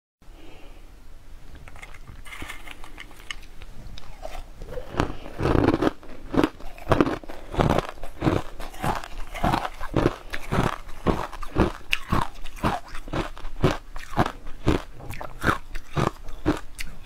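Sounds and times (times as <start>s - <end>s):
mouth chewing crushed ice: 1.5s - 17.0s.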